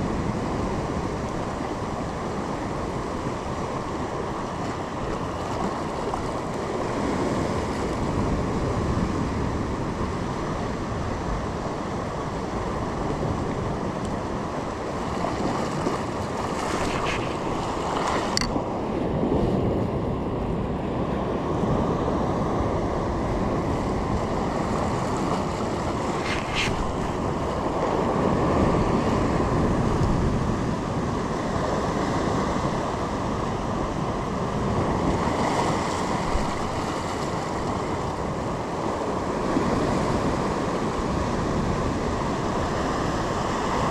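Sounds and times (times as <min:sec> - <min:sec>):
ocean surf rushing: 0:00.0 - 0:43.9
wind buffeting microphone: 0:00.0 - 0:43.9.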